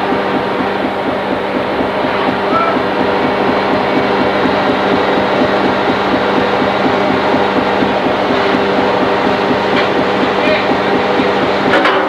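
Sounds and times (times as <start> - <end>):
deck machinery running: 0.0 - 12.0.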